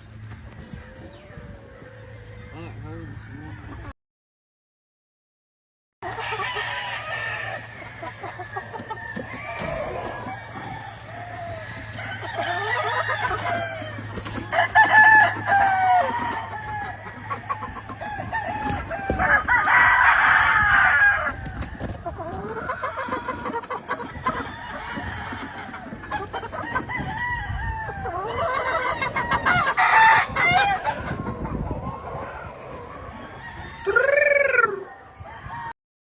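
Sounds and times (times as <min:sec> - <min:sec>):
roosters crowing: 0:00.0 - 0:03.9, 0:06.0 - 0:35.8
chickens clucking: 0:00.0 - 0:04.0, 0:06.0 - 0:35.8.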